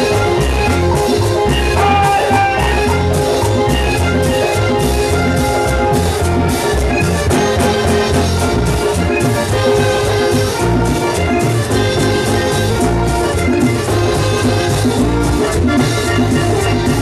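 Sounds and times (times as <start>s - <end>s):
band music with steady beat: 0.0s - 17.0s.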